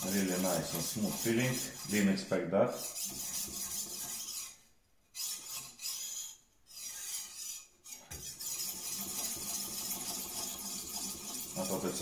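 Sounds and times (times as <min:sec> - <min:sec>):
knife grinding on a whetstone: 0:00.0 - 0:12.0.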